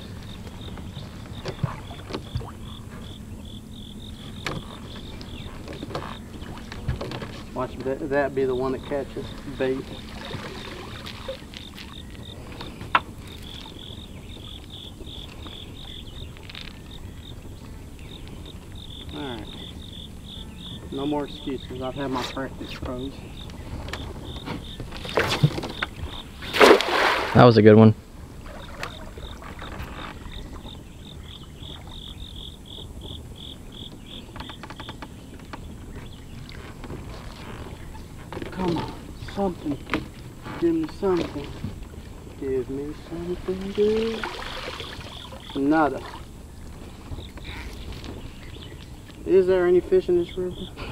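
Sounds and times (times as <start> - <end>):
low outdoor rumble: 0.0 - 26.6, 27.4 - 50.9
insects chirping rhythmically: 0.0 - 27.0, 28.0 - 50.9.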